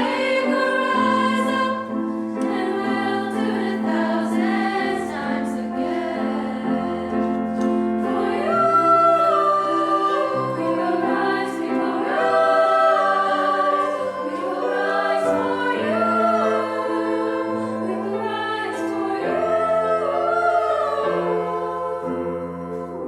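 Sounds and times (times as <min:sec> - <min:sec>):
choir singing: 0:00.0 - 0:23.0
piano chords: 0:00.0 - 0:23.0.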